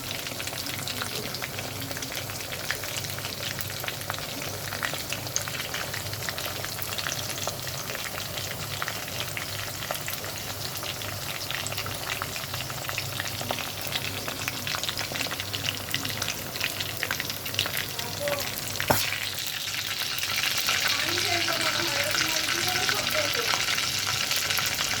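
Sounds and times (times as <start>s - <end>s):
chicken frying in hot oil: 0.0s - 25.0s.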